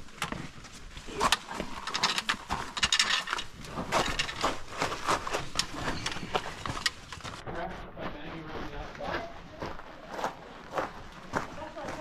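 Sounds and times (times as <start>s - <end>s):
hiking boots crunching on gravel: 0.0s - 12.0s.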